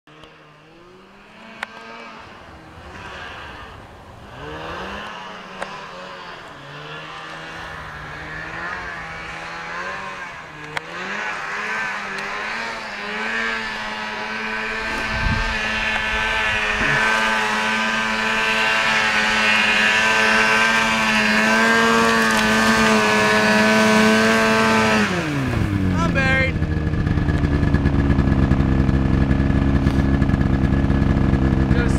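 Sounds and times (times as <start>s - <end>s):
snowmobile engine revving: 0.1s - 31.9s.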